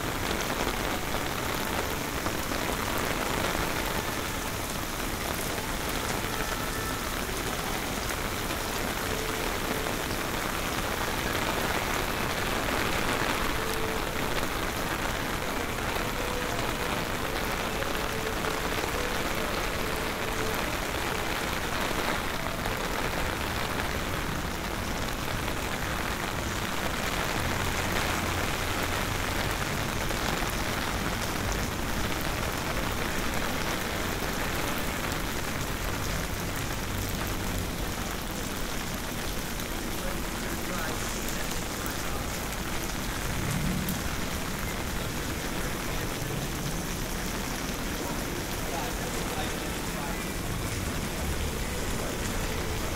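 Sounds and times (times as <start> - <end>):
heavy rain on pavement: 0.0 - 52.9.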